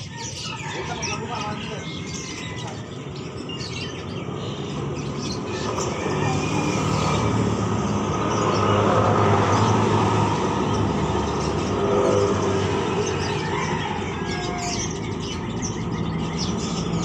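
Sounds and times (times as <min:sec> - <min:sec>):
birds chirping: 0:00.0 - 0:17.0
vehicle engine droning: 0:00.8 - 0:17.0.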